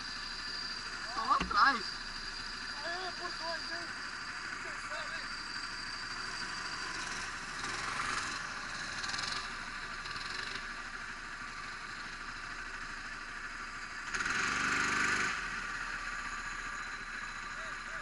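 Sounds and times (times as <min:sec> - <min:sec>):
go-kart engines running: 0:00.0 - 0:18.0.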